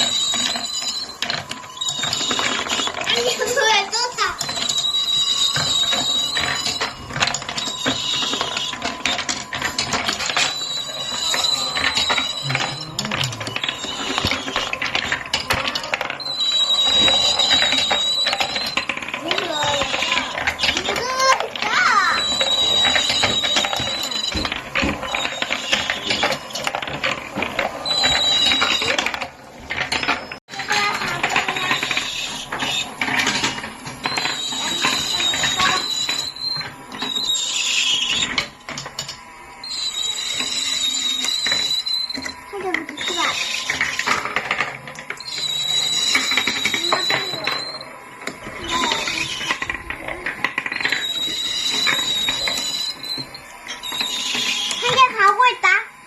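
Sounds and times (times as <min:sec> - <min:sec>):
marbles rolling down wooden run: 0:00.0 - 0:55.7.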